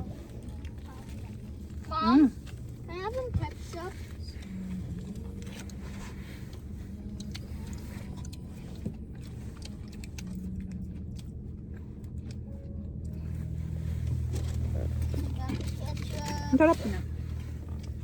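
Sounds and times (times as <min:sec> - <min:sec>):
car engine idling: 0:00.0 - 0:18.0
people eating clicks and rustles: 0:00.0 - 0:18.0.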